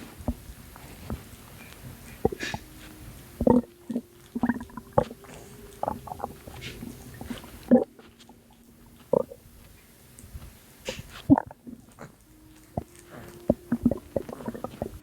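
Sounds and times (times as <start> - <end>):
belly gurgling: 0.0 - 15.0.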